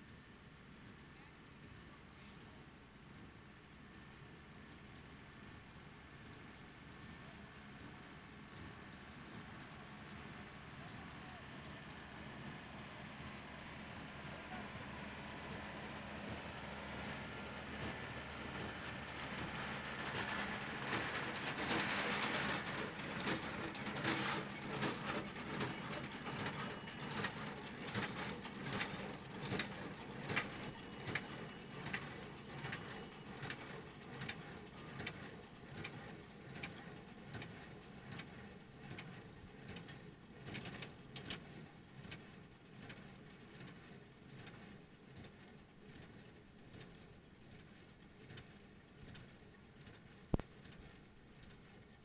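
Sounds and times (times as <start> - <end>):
tractor running steadily: 2.0 - 52.0.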